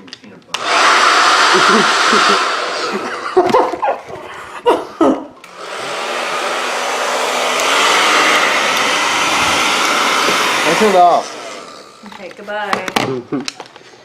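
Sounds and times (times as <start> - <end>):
hair dryer blowing: 0.5 - 12.2.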